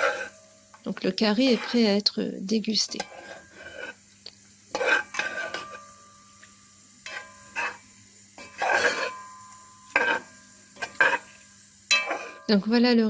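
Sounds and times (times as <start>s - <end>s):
metal spoon scraping a pot: 0.0s - 0.6s, 1.2s - 2.0s, 2.7s - 4.1s, 4.7s - 12.6s.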